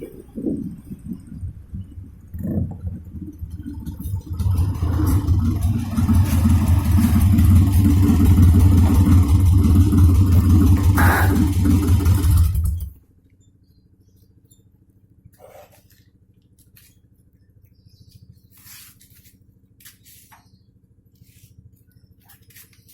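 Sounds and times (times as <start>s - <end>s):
engine rumbling: 0.0s - 22.9s.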